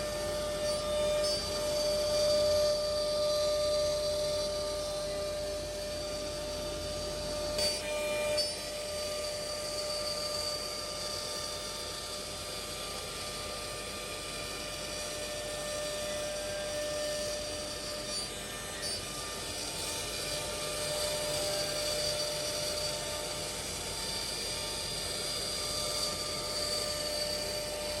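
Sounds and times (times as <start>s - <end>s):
router spindles whining: 0.0s - 28.0s.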